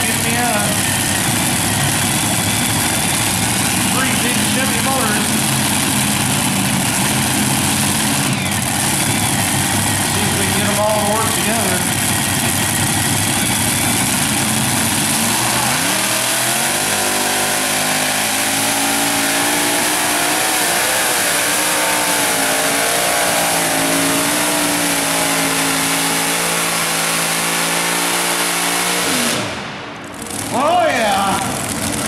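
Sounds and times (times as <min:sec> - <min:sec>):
pulling tractor engine revving: 0:00.0 - 0:32.0.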